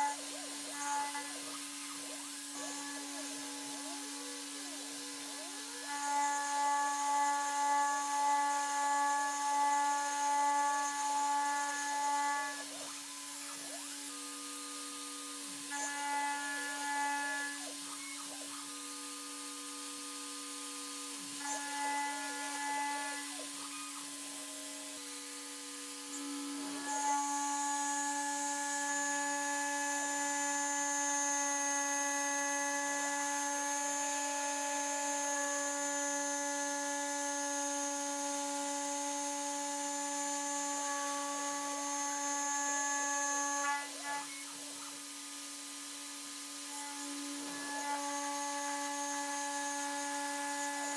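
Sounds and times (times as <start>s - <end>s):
cutter machining metal: 0.0s - 50.9s.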